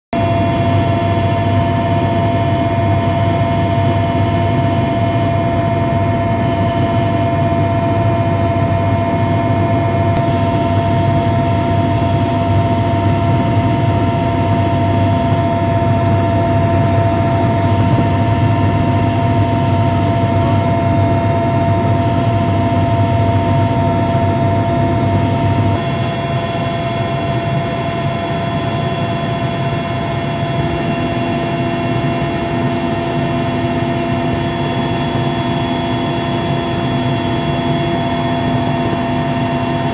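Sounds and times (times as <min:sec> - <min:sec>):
aircraft engine drone: 0:00.2 - 0:39.9
constant tonal hum: 0:00.2 - 0:39.9.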